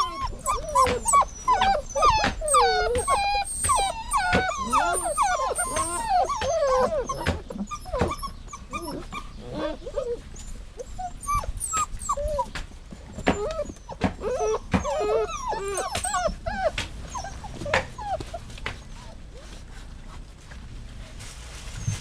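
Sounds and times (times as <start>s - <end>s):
dog whining and whimpering: 0.0s - 19.6s.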